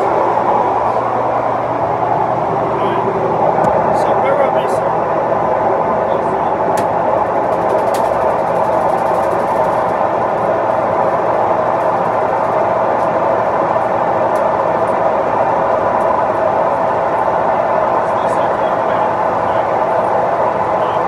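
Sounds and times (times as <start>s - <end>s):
laundry machines droning: 0.0s - 21.0s.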